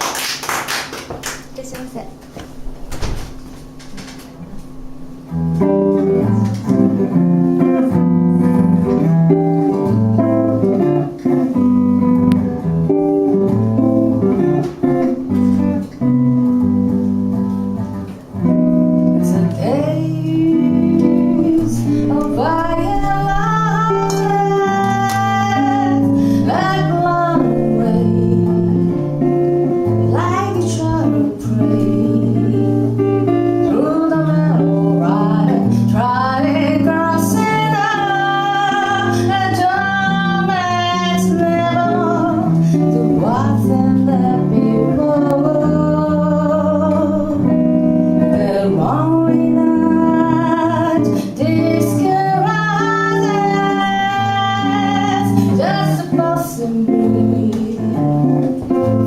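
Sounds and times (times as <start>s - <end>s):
guitar over low notes: 2.1s - 59.0s
lead melody with gliding notes: 4.4s - 59.0s.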